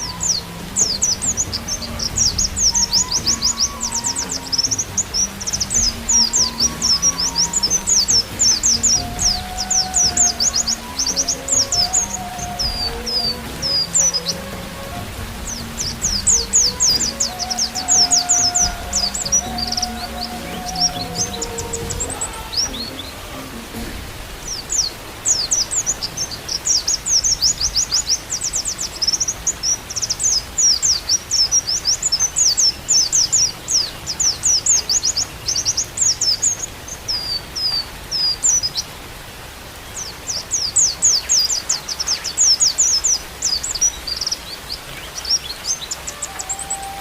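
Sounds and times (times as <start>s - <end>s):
bird singing rapid high chirps: 0.0s - 38.9s, 39.9s - 47.0s
rain hiss: 0.0s - 47.0s.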